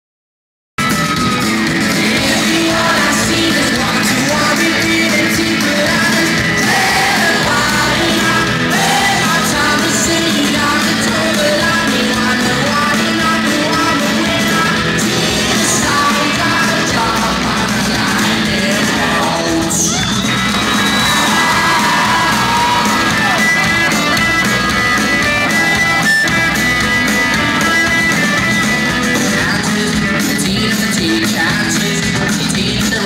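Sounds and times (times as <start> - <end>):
live rock band: 0.8 - 33.0.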